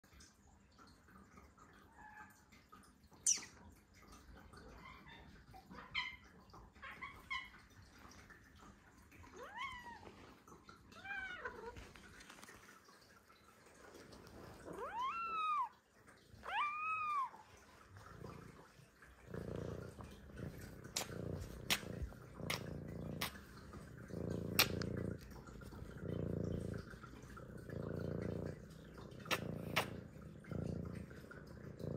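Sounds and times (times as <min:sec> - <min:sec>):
cat purring: 0:04.2 - 0:31.9.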